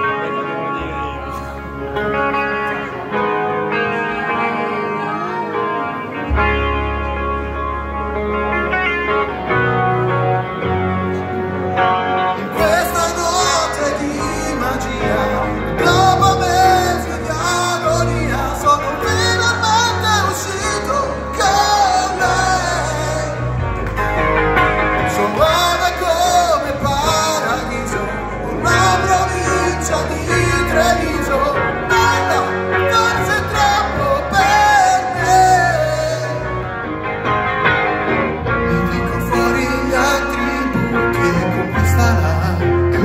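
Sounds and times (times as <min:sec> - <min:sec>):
person singing lead vocal: 0:00.0 - 0:06.8, 0:08.6 - 0:37.0, 0:38.4 - 0:43.0
rock band playing live: 0:00.0 - 0:43.0.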